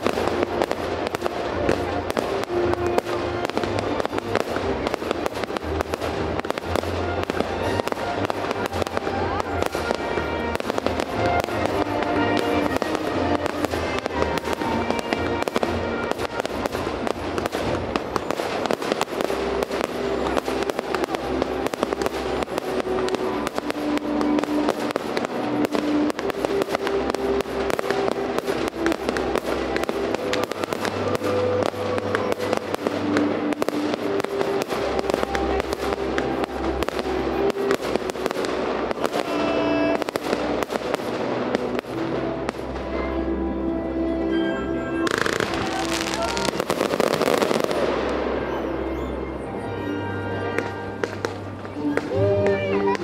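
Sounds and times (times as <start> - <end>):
fireworks bangs and crackling: 0.0 - 53.0
music playing: 0.0 - 53.0.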